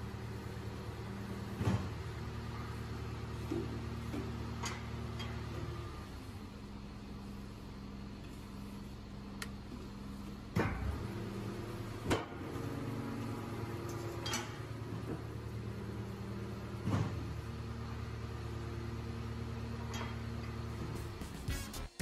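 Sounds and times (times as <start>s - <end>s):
truck engine drone: 0.0s - 22.0s.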